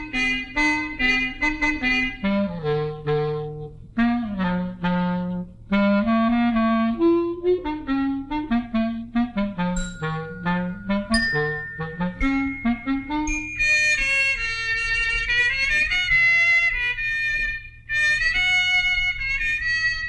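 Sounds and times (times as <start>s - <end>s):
solo wind instrument melody: 0.0s - 20.0s.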